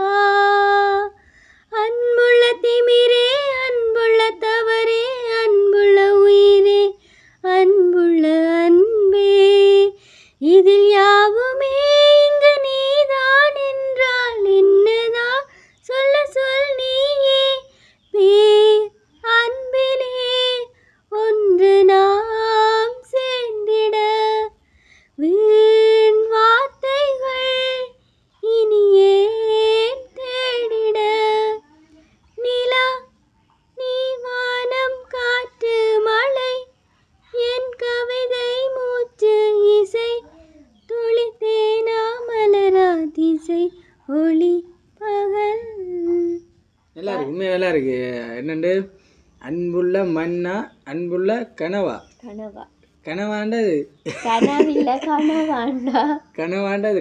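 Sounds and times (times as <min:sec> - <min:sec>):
woman singing unaccompanied: 0:00.0 - 0:52.0, 0:54.0 - 0:57.0.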